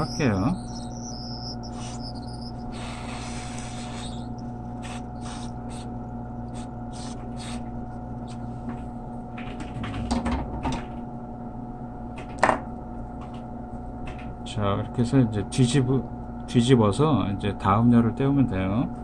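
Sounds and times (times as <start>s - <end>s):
bench equipment hum: 0.0s - 19.0s.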